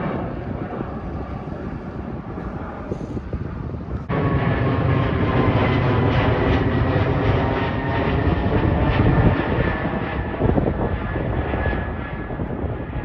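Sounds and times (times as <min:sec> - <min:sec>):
jet engines roaring overhead: 0:00.0 - 0:13.0.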